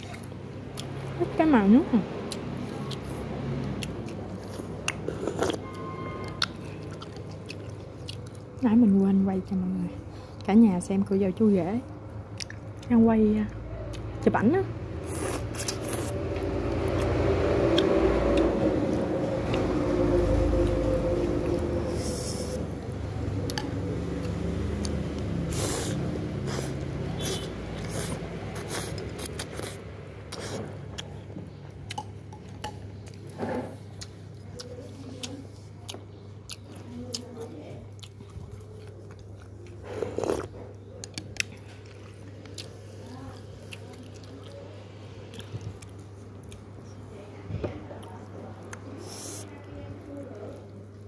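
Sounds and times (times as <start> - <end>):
person chewing food: 0.0 - 1.2, 2.2 - 8.6, 11.9 - 12.9, 15.0 - 47.0, 47.9 - 51.0
low steady hum: 0.0 - 51.0.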